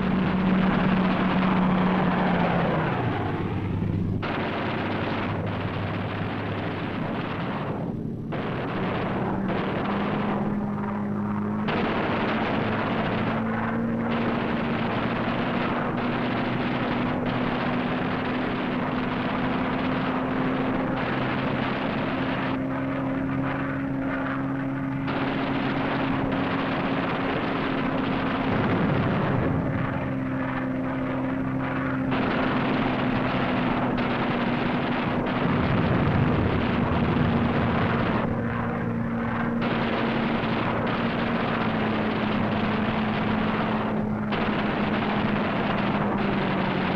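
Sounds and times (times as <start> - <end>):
propeller aircraft droning: 0.0 - 46.9.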